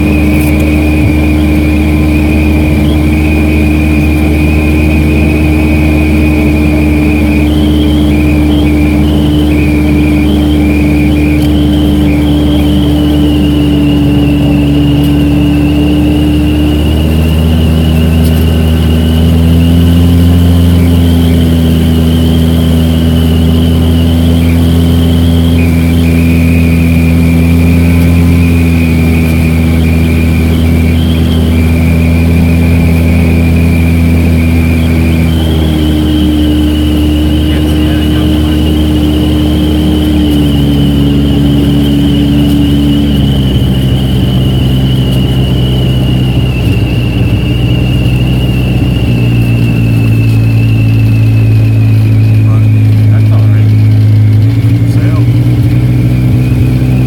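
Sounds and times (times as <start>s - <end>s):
engine and road noise: 0.0s - 57.0s
thin high whine: 0.0s - 57.0s.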